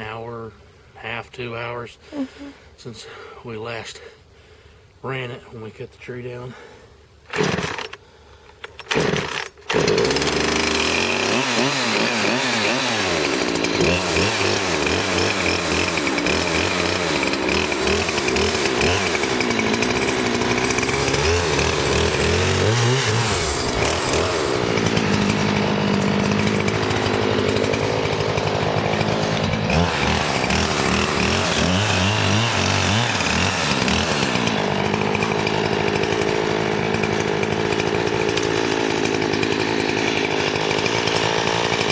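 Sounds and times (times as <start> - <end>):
chainsaw starting and running: 2.1 - 2.5, 6.6 - 41.9.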